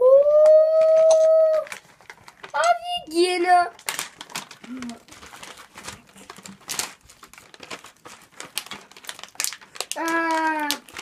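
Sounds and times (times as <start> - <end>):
plastic candy bags crinkling: 0.5 - 11.0.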